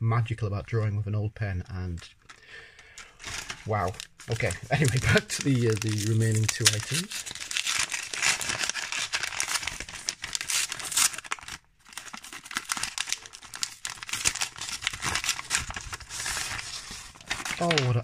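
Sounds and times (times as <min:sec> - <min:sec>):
paper gift wrap tearing: 0:03.0 - 0:18.0.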